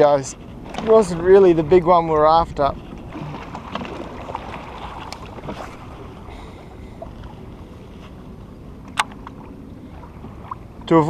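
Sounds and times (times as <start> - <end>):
water lapping against raft: 0.0 - 11.0.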